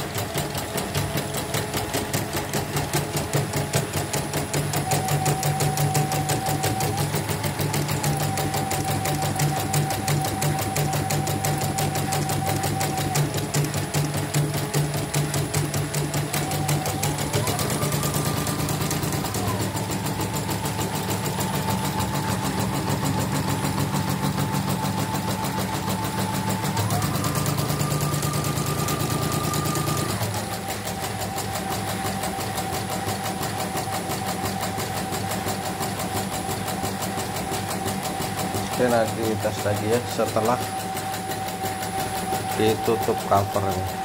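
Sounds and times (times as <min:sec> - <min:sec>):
embroidery machine stitching: 0:00.0 - 0:44.0.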